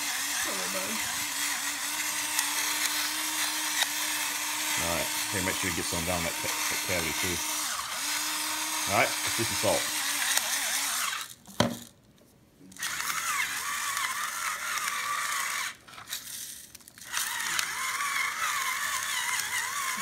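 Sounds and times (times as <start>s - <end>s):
electric salt grinder whirring: 0.0s - 11.4s, 12.8s - 20.0s.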